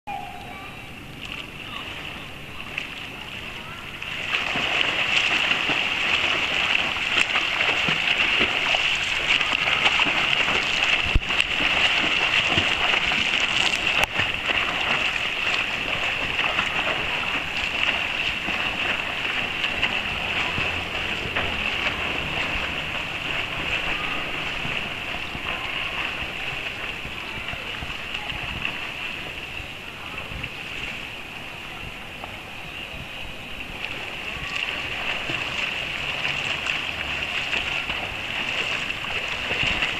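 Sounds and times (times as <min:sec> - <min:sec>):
swimmers splashing in pool: 0:00.4 - 0:39.9.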